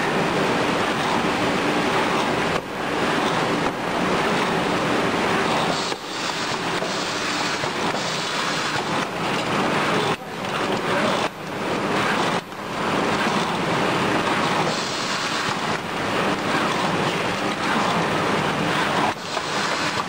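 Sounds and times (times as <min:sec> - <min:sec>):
packing machine running: 0:00.0 - 0:20.0.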